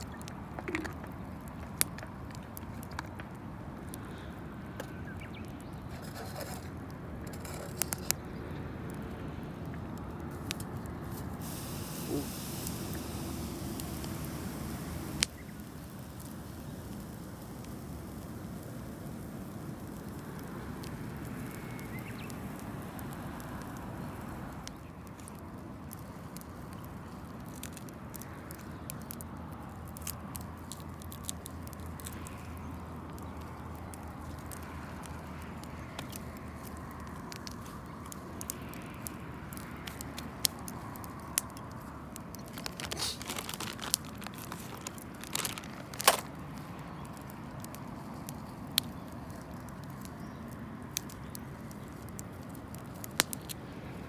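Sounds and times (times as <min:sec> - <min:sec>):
campfire crackling: 0:00.0 - 0:54.0
sharp pops of fire: 0:00.0 - 0:54.0.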